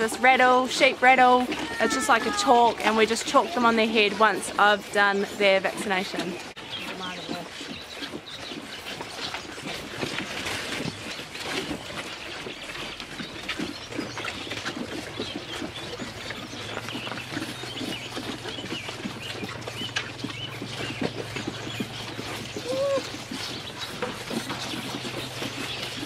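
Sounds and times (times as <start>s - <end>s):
birds chirping: 0.0s - 26.0s
calves jostling at a feeder: 0.0s - 26.0s.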